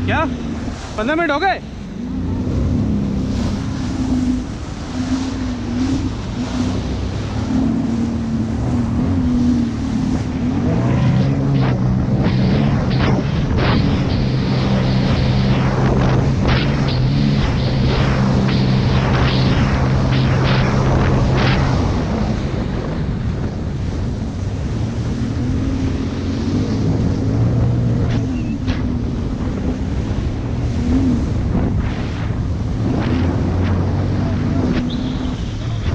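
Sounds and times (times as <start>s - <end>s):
jet ski engine running: 0.0s - 35.9s
water slapping: 0.0s - 35.9s
wind on microphone: 0.0s - 35.9s.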